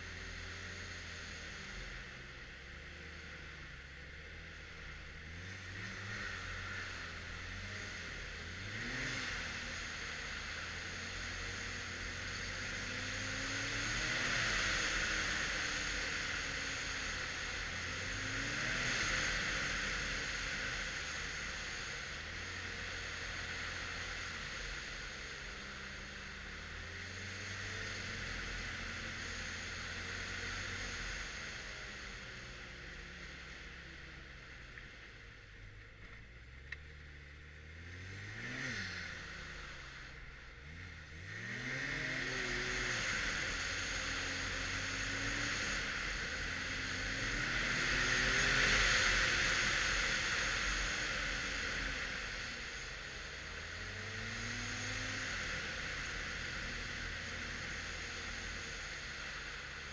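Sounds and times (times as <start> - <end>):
snowmobile engine running: 0.0 - 59.9
wind and track hiss: 0.0 - 59.9.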